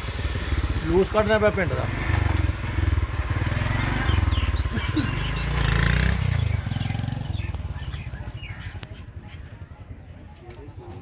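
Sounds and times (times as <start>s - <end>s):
birds chirping: 0.1s - 11.0s.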